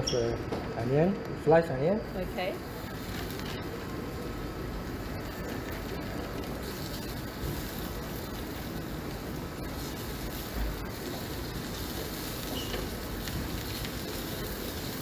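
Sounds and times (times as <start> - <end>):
onion sizzling in a pan: 2.1 - 15.0.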